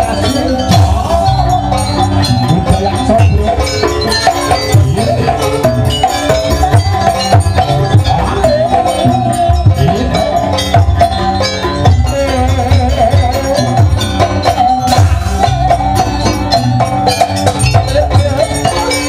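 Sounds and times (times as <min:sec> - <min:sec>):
drums and metal percussion: 0:00.0 - 0:19.0
high wavering melody: 0:00.0 - 0:19.0.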